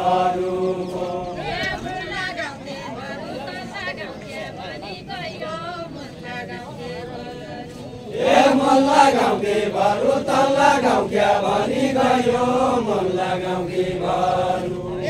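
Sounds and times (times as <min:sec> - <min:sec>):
group singing unaccompanied chant: 0:00.0 - 0:15.0.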